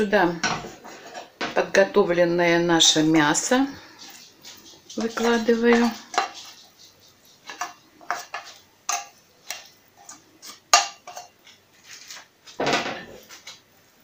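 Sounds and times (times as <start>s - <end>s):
spoon scraping and knocking on dishes: 0.4s - 1.6s, 3.4s - 13.6s.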